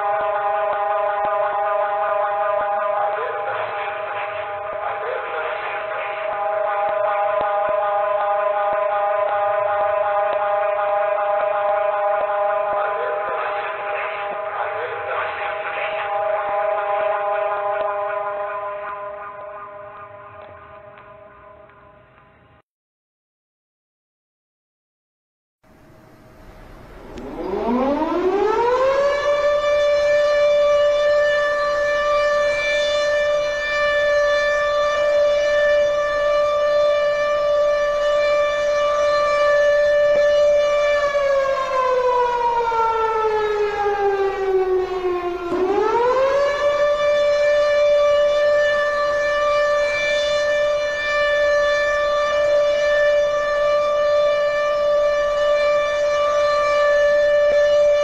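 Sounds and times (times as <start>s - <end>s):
civil defense siren wailing: 0.0s - 22.2s, 25.7s - 58.0s.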